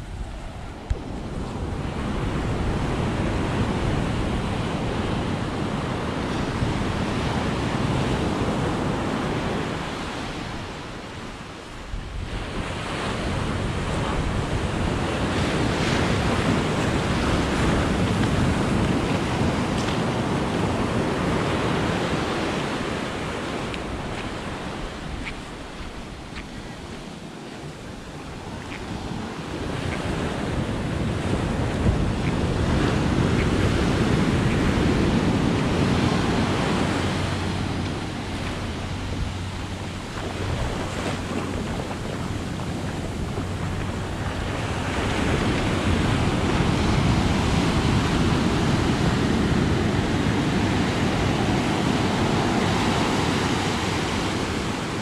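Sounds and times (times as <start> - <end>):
ocean surf on sandy beach: 0.0 - 55.0.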